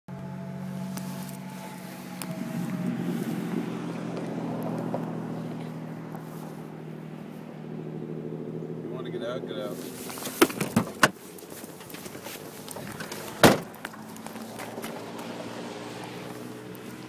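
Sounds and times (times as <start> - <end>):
car engine idling: 0.1 - 17.0.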